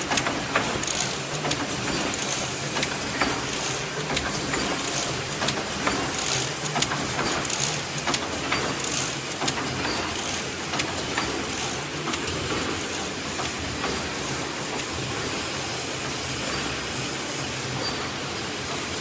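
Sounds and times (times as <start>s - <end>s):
sharp machine clicks: 0.0s - 15.8s
weaving machine clattering: 0.0s - 19.0s.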